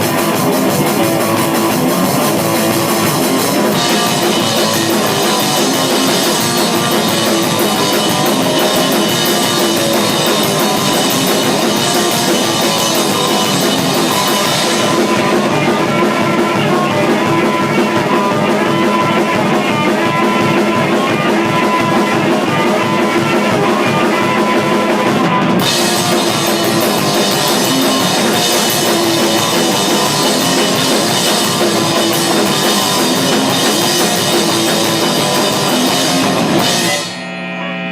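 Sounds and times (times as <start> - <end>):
drum kit: 0.0 - 37.3
guitar playing rock: 0.0 - 37.9.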